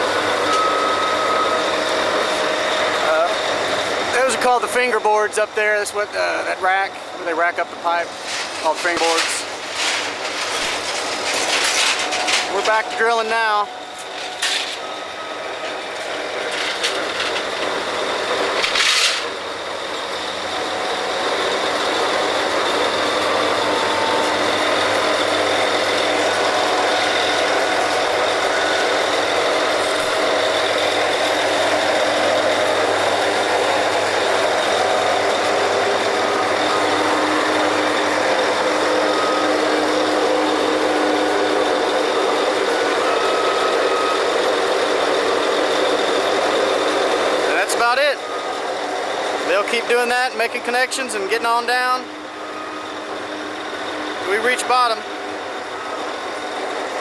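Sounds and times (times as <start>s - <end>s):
drilling rig machinery din: 0.0s - 57.0s.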